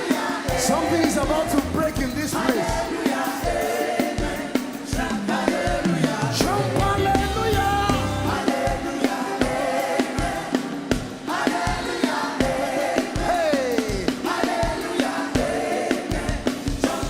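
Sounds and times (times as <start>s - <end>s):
band with steady drum beat: 0.0s - 17.0s
choir and congregation singing: 0.0s - 17.0s.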